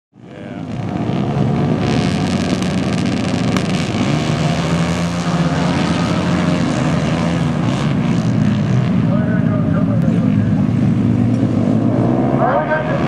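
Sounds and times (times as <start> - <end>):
motorcycles revving and accelerating: 0.2 - 13.0.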